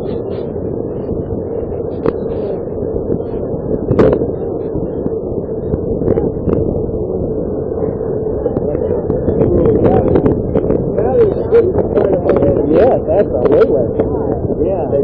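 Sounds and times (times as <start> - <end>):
low rumble with hum: 0.0 - 15.0.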